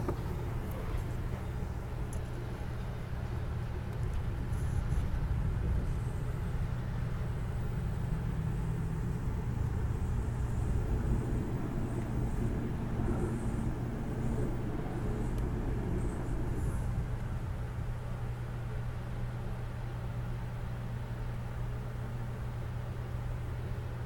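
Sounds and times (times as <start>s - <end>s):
train rumble inside coach: 0.0s - 24.0s.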